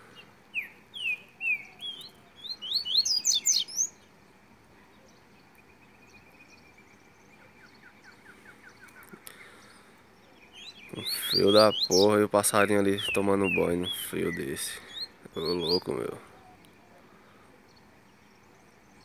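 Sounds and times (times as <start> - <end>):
songbird whistling song: 0.0 - 4.1, 4.7 - 12.3, 12.9 - 17.0
faint rapid ticking bird notes: 0.0 - 19.0.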